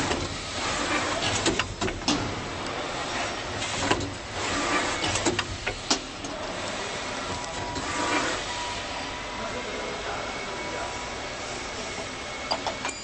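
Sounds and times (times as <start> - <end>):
printing machine running: 0.0 - 13.0.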